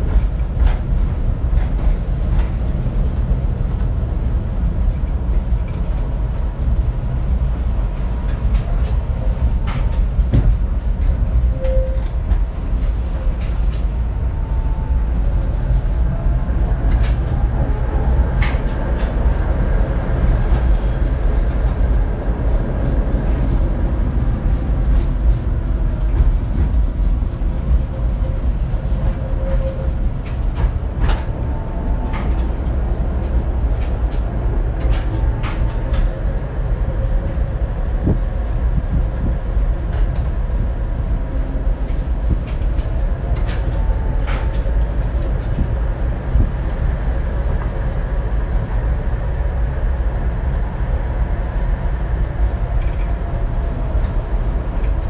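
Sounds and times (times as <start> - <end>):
tram wheels rumbling: 0.0 - 55.0.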